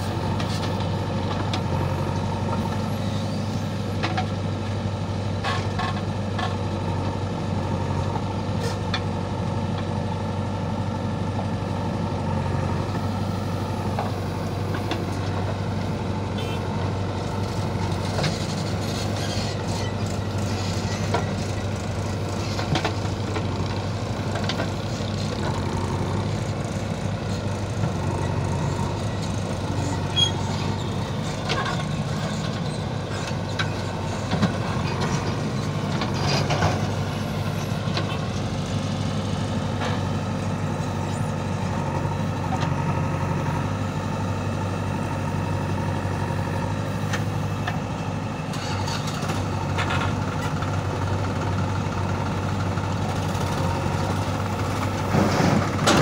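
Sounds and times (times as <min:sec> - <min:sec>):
backhoe digging soil: 0:00.0 - 0:56.0
diesel engine running: 0:00.0 - 0:56.0.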